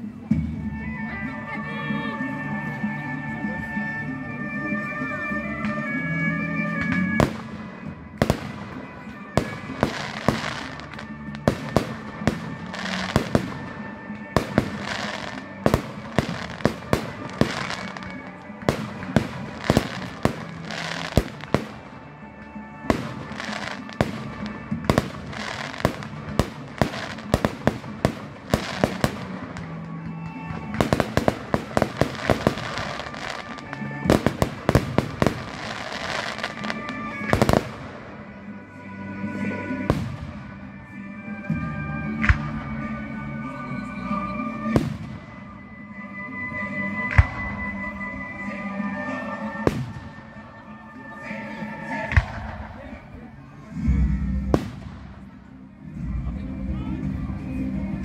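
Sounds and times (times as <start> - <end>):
music playing: 0.0 - 58.0.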